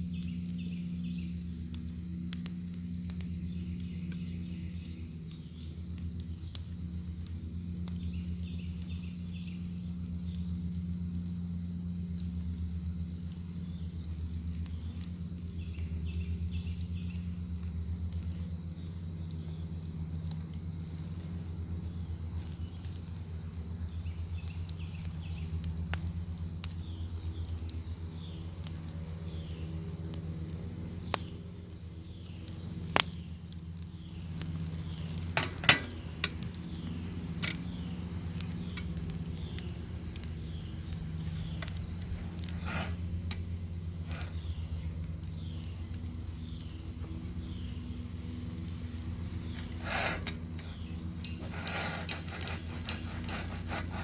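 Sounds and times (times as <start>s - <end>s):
crickets chirping: 0.0s - 54.0s
low steady hum: 0.0s - 54.0s
wood fire crackling: 0.0s - 54.0s.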